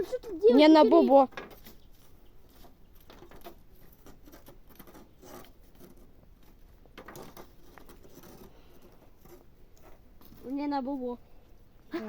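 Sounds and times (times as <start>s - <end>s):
small clicks and crackles: 0.0s - 11.2s
faint rustling: 0.0s - 12.0s.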